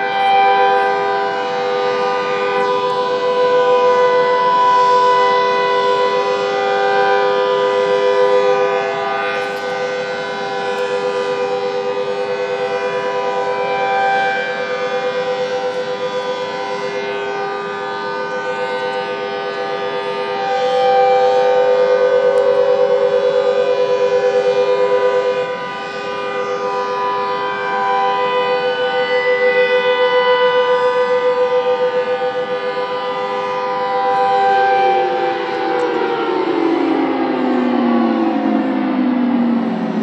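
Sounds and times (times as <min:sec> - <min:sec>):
warning sirens steady tone: 0:00.0 - 0:40.0.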